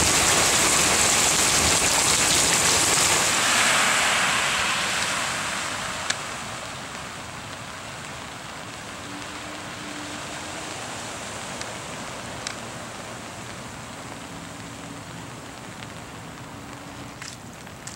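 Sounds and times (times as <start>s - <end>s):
heavy rain pouring: 0.0s - 17.9s
tyres splashing through flooded street: 0.0s - 17.9s.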